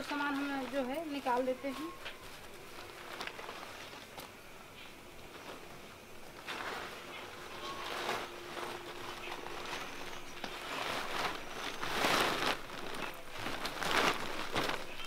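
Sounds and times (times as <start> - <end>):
plastic sack rustling: 0.0 - 15.0.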